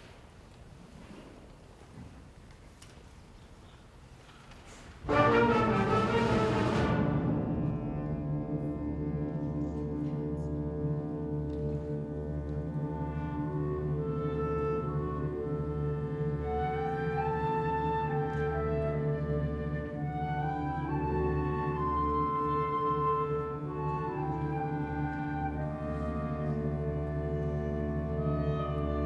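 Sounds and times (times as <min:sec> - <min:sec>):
instrumental ensemble playing: 0:05.1 - 0:29.0.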